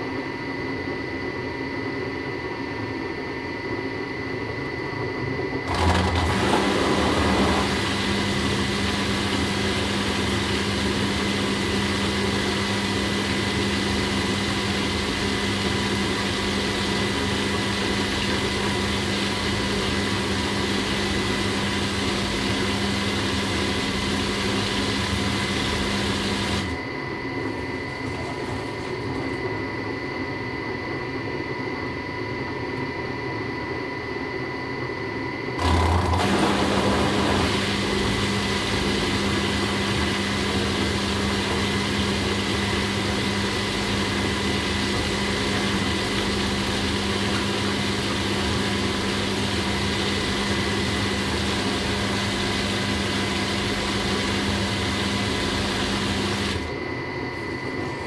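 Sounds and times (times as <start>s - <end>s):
washing machine running: 4.8s - 33.1s, 35.2s - 58.0s.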